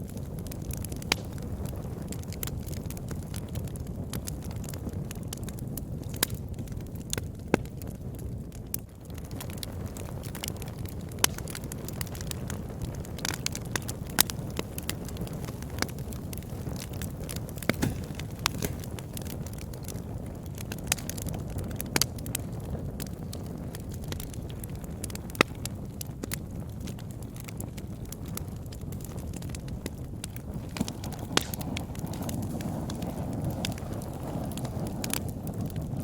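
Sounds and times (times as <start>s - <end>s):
low rumble of flames: 0.0s - 36.0s
wood fire crackling and popping: 0.0s - 36.0s.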